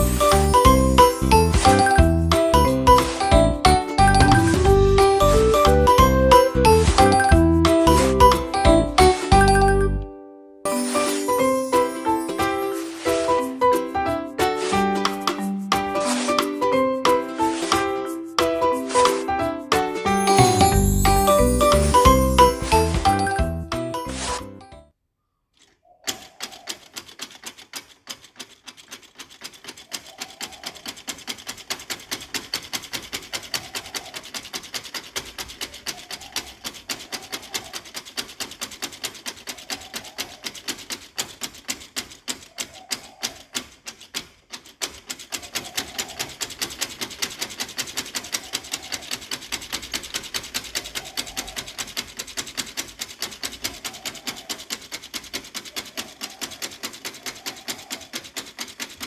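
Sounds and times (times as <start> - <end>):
ticking and scraping of hand work: 0.0 - 9.8, 10.7 - 24.8, 25.5 - 59.0.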